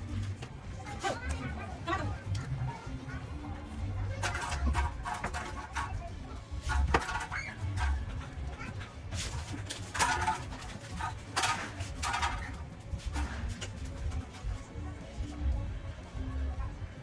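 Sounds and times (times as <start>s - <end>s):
background music with bass line: 0.0s - 17.0s.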